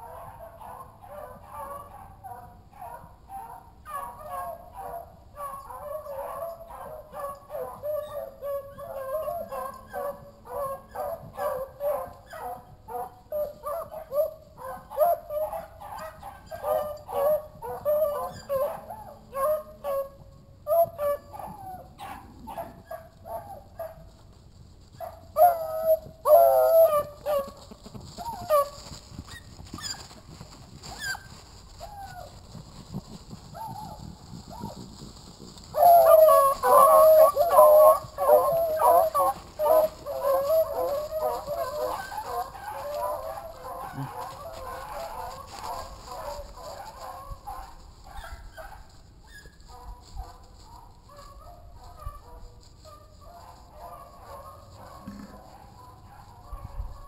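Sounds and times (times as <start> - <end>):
hounds baying: 0.0 - 24.1, 25.0 - 30.2, 30.8 - 34.8, 35.6 - 57.0.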